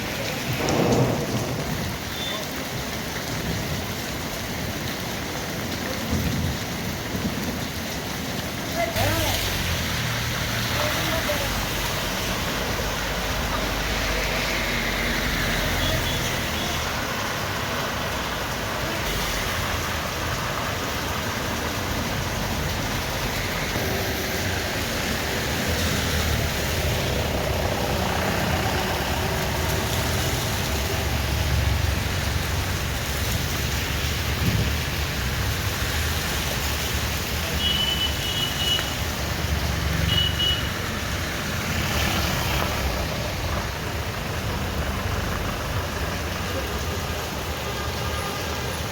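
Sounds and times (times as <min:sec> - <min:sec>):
rain and water pouring through drain: 0:00.0 - 0:48.9.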